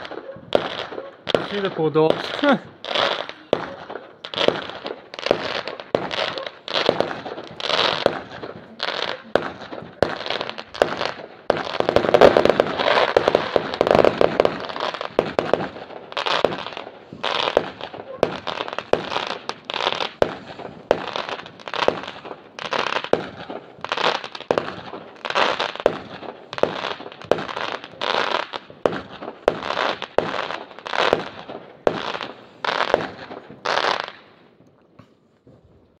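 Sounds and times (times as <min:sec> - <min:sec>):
fireworks bursting: 0:00.0 - 0:34.8
crackle of fireworks stars: 0:00.0 - 0:36.0.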